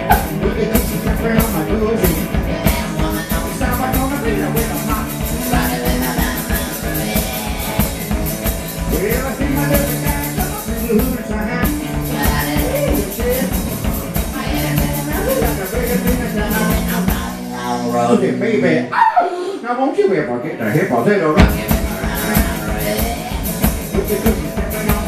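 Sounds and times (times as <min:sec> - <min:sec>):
kick drum and cymbal beat: 0:00.0 - 0:17.5, 0:21.4 - 0:25.0
electric guitar: 0:00.0 - 0:19.6, 0:20.4 - 0:25.0
person singing: 0:00.0 - 0:19.7, 0:21.3 - 0:25.0.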